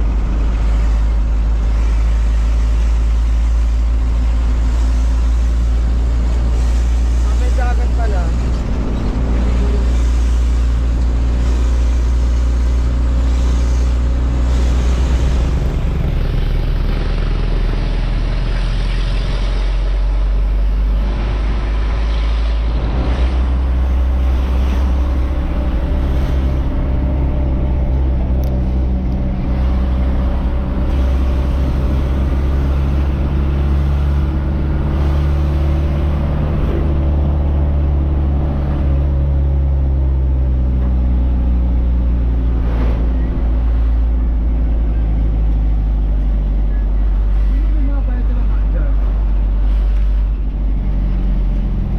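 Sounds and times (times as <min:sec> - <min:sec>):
road noise: 0:00.0 - 0:51.9
truck engine running: 0:00.0 - 0:51.9.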